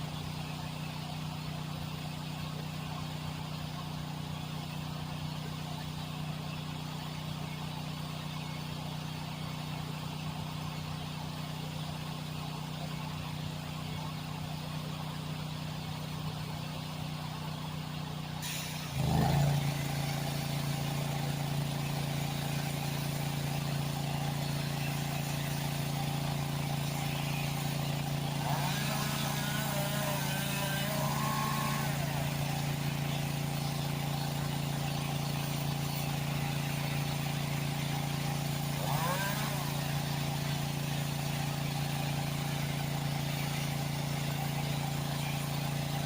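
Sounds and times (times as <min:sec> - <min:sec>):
engine running steadily: 0:00.0 - 0:46.0.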